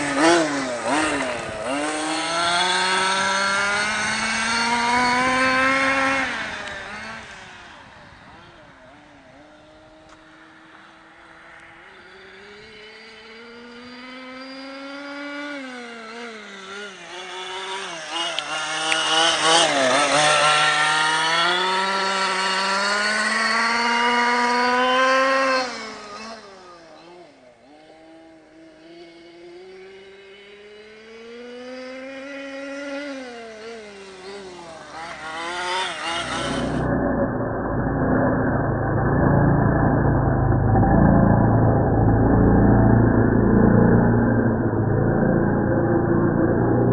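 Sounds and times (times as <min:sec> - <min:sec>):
rc truck two-stroke engine revving: 0:00.0 - 0:46.9.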